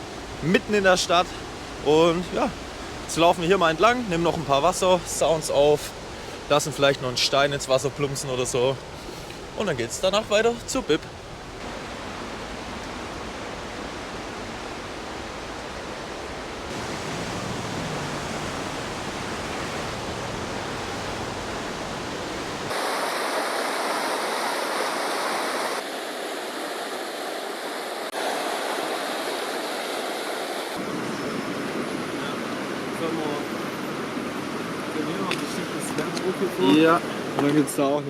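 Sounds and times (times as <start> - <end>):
rushing river water: 0.0 - 38.0.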